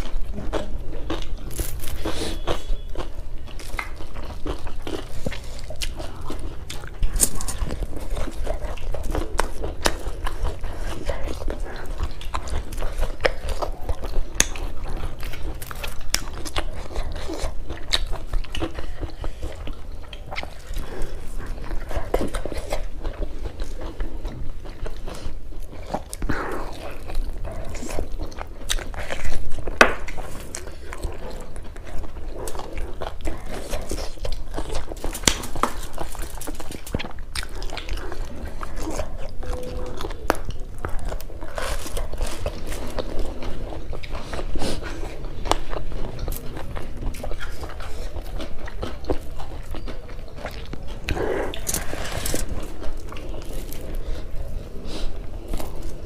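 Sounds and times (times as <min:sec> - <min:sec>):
low steady hum: 0:00.0 - 0:56.0
people chewing: 0:00.0 - 0:56.0.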